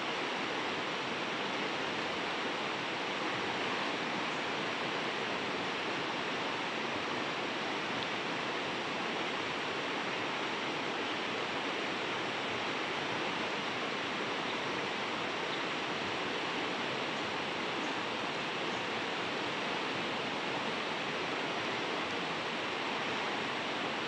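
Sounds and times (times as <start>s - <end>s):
river rushing over rapids: 0.0s - 24.0s.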